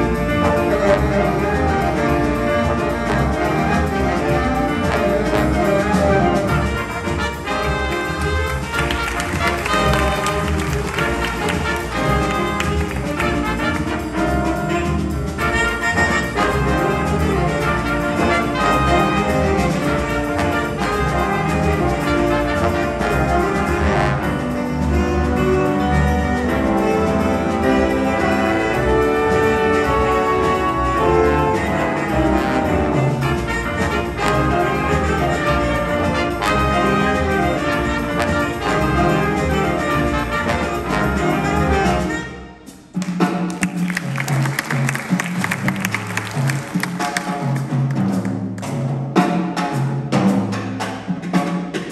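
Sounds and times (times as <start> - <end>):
upright bass: 0.0 - 42.1
trumpets: 0.0 - 42.9
trombones: 0.0 - 43.0
jazz big band playing: 0.0 - 51.9
piano: 0.0 - 51.9.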